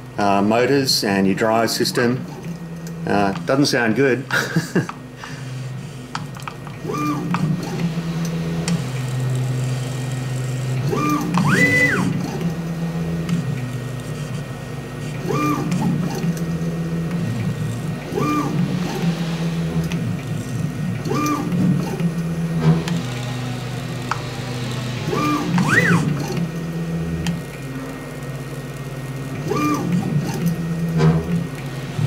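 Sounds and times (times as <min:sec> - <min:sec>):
milling machine motors humming: 0:00.0 - 0:32.0
motor whines: 0:00.0 - 0:32.0.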